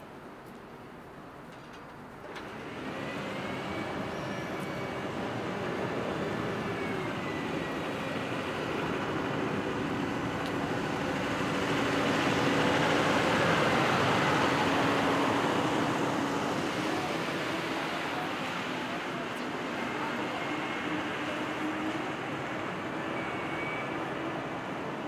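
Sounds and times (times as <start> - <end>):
steady street hum: 0.0 - 25.0.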